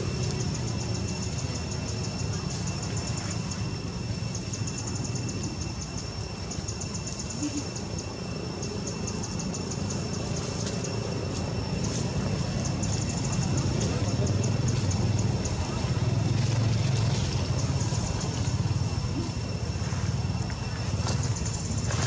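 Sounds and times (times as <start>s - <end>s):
thin steady high tone: 0.0s - 22.0s.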